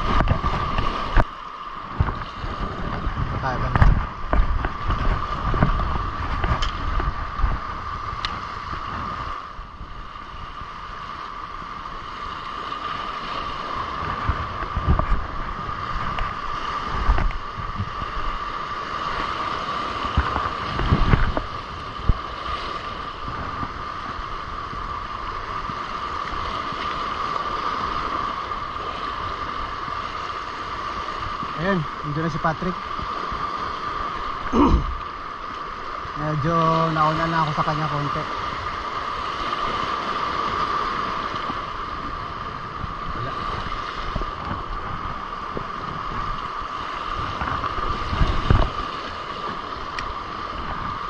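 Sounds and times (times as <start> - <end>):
sea surf washing over rocks: 0.0 - 51.0.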